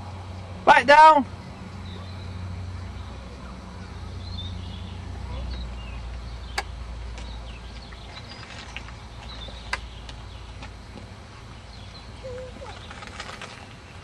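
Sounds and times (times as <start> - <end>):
birds chirping: 0.0 - 14.0
low steady rumble: 0.0 - 14.0.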